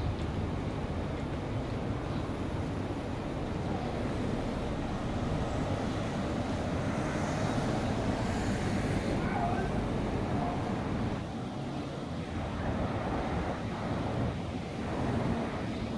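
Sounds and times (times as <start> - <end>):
cars driving past slowly: 0.0 - 15.9.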